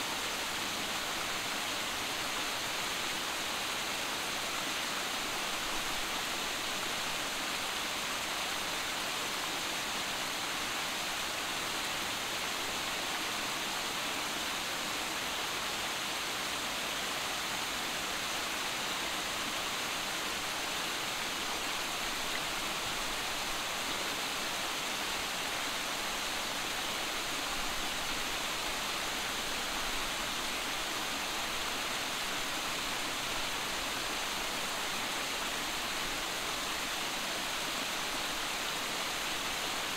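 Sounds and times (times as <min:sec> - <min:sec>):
water rushing over boulders: 0:00.0 - 0:39.9.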